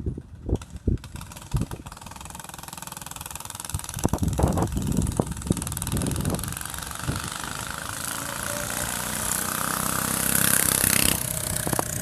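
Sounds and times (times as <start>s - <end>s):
go-kart engine running: 0.0s - 12.0s.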